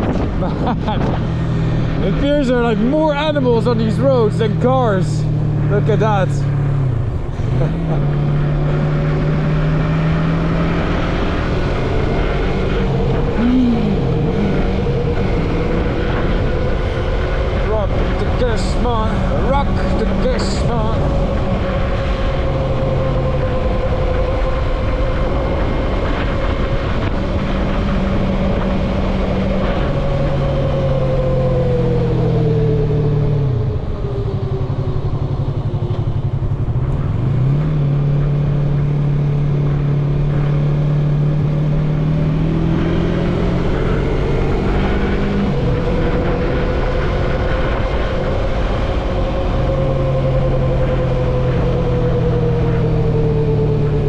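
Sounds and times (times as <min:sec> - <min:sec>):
wind rush on microphone: 0:00.0 - 0:03.8, 0:06.8 - 0:54.0
motorcycle engine running: 0:00.0 - 0:54.0.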